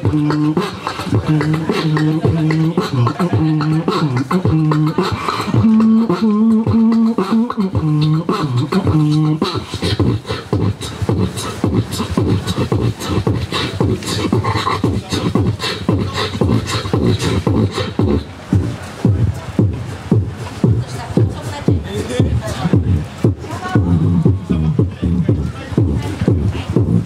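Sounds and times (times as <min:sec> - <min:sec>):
person beatboxing into a microphone: 0:00.0 - 0:27.0.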